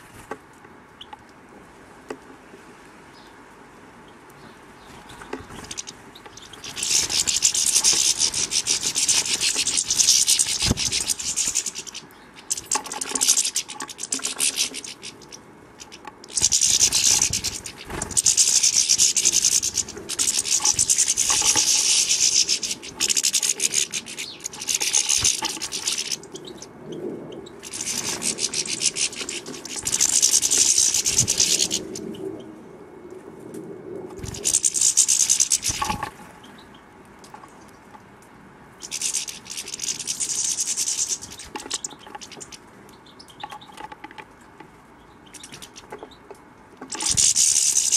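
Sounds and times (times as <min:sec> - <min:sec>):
birds pecking and husking seeds: 0:00.0 - 0:47.9.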